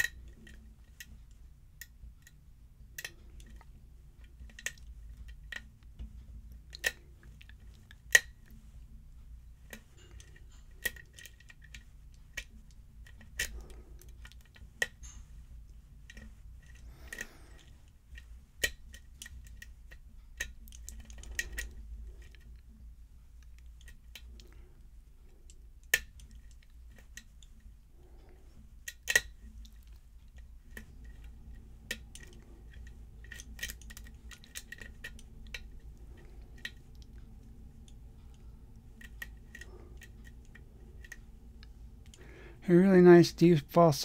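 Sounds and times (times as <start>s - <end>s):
small metallic clicks: 0.0s - 42.5s.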